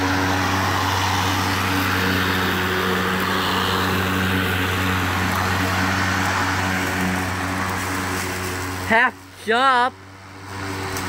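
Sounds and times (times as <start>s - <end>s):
lawn mower running: 0.0s - 11.0s.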